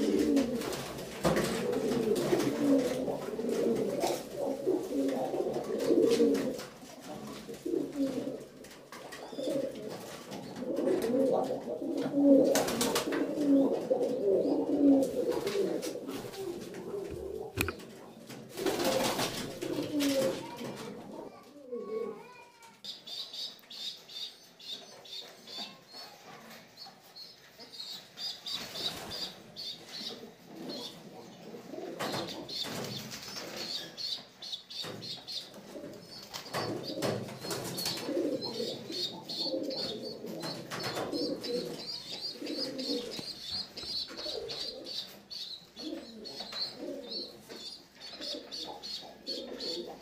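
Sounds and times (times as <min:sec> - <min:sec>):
pigeons cooing: 0:00.0 - 0:22.3, 0:23.1 - 0:50.0.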